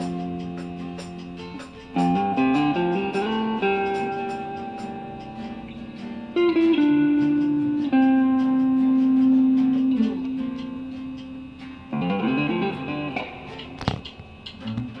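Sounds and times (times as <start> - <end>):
guitar playing: 0.0 - 15.0
sharp click: 0.0 - 15.0.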